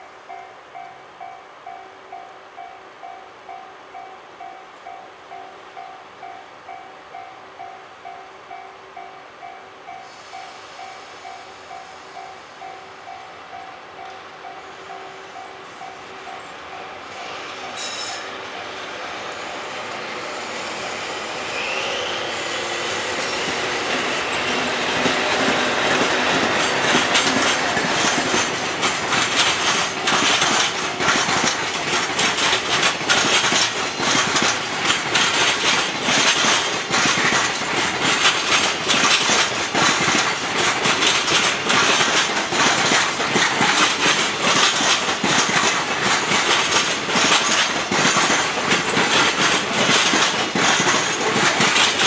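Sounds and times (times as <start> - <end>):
train wheels rumbling: 7.1 - 52.0
clickety-clack of wheels on rail joints: 9.9 - 52.0.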